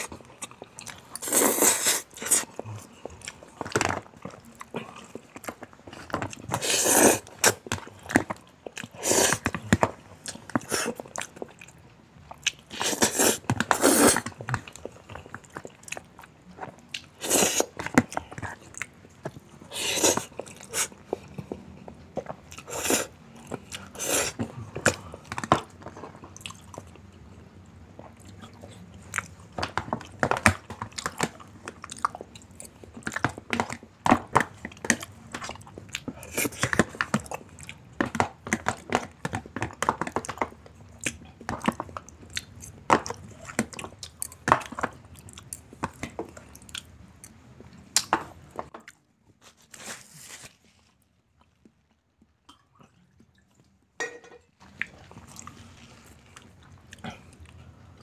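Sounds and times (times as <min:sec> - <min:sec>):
person chewing food: 0:00.0 - 0:53.8, 0:54.6 - 0:58.0.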